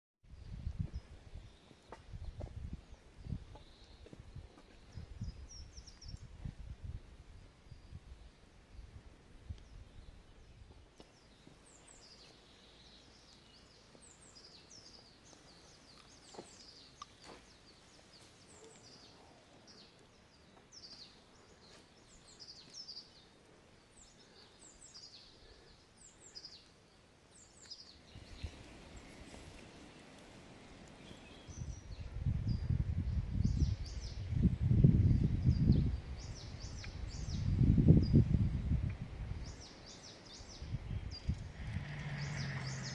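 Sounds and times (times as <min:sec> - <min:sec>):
songbirds chirping: 0:00.3 - 0:06.6, 0:07.4 - 0:42.9.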